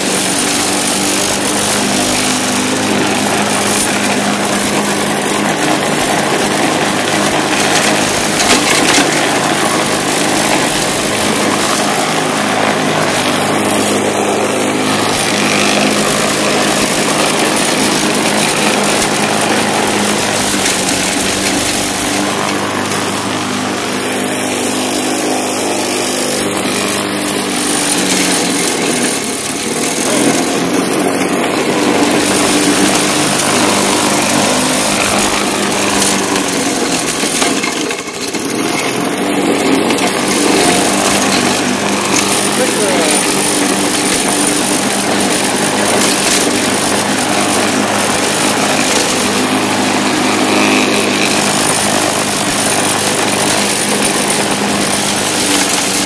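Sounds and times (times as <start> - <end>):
push mower engine cutting grass: 0.0 - 56.0.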